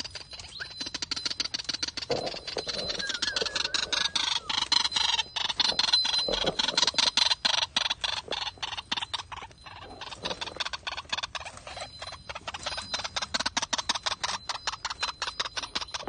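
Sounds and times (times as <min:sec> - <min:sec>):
waterhens calling: 0:00.0 - 0:16.0.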